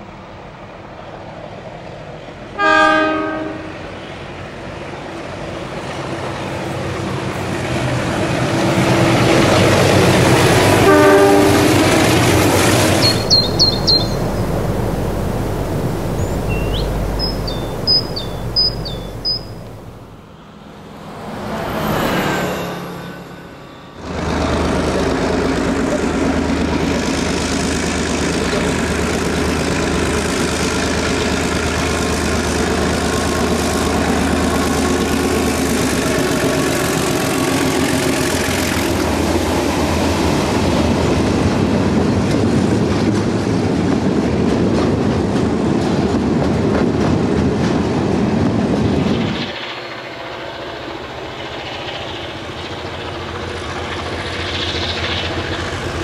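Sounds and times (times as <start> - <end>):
heavy locomotive engine drone: 0.0 - 56.0.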